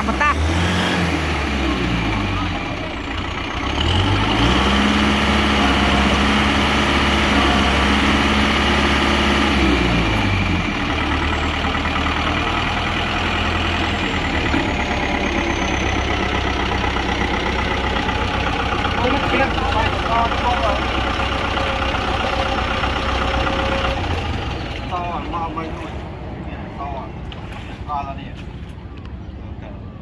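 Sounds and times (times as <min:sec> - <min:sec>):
tractor diesel engine revving: 0:00.0 - 0:28.7.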